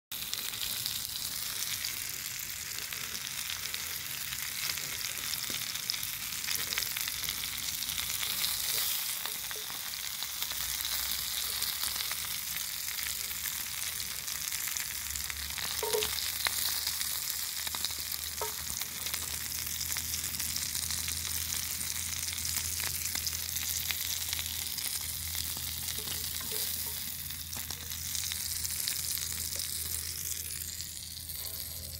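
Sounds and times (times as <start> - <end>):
meat and vegetables sizzling: 0.1 - 31.9.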